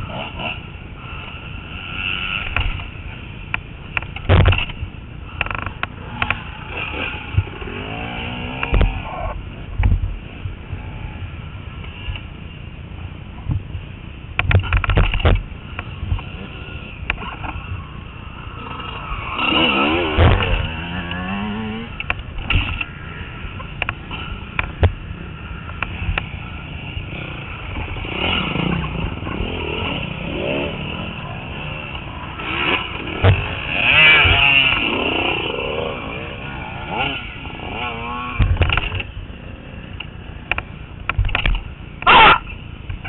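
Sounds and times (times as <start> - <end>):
dirt bike engine revving: 0.0 - 12.1, 14.6 - 42.6.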